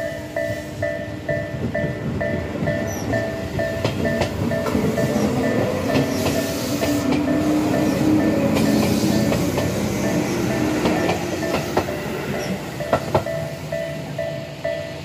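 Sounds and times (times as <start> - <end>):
electric train rumbling past: 0.0 - 15.0
two-tone crossing bell clanging: 0.0 - 15.0
wheels clacking over rail joints: 1.2 - 14.2.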